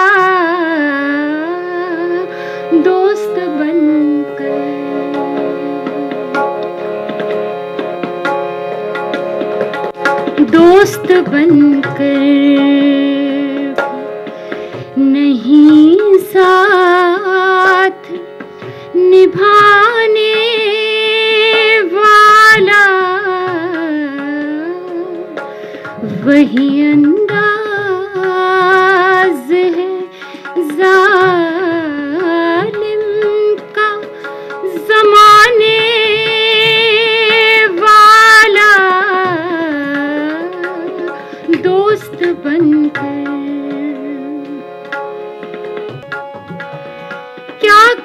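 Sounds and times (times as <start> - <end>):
woman singing: 0.0 - 6.4, 10.4 - 14.1, 14.9 - 18.3, 18.9 - 25.4, 26.0 - 44.7, 47.6 - 48.0
harmonium chords: 0.0 - 48.0.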